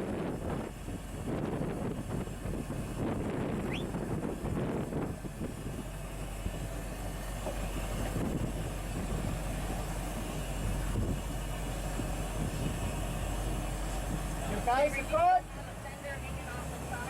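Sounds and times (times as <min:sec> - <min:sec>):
boat engine humming: 0:00.0 - 0:17.0
rumbling water wash: 0:00.0 - 0:17.0.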